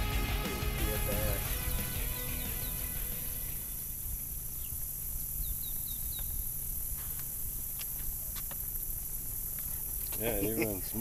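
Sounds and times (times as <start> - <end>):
small bird chirping: 1.7 - 11.0.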